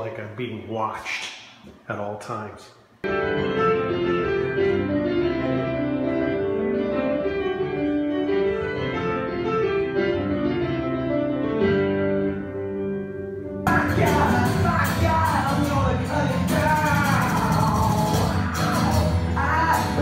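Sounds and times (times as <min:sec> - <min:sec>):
electric piano chords: 0:03.0 - 0:20.0.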